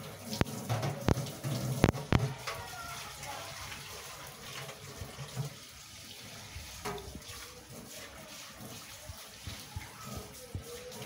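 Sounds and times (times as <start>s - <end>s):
water running into a pond: 0.0s - 11.0s.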